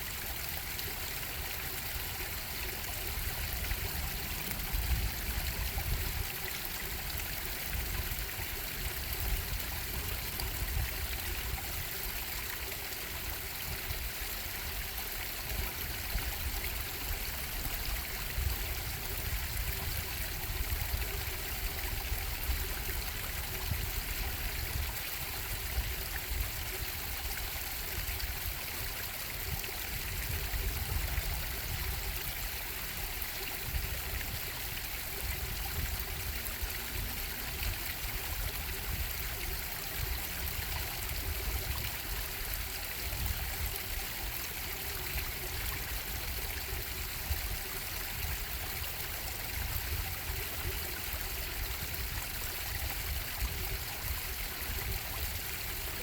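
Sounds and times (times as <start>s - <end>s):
stream water bubbling: 0.0s - 56.0s.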